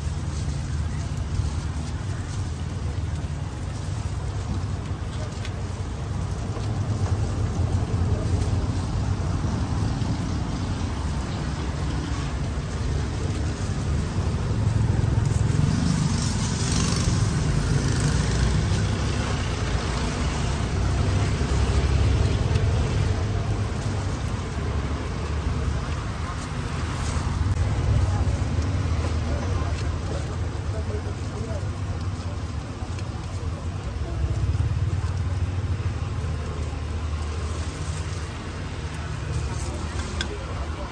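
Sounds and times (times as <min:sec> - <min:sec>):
street traffic rumble: 0:00.0 - 0:40.9.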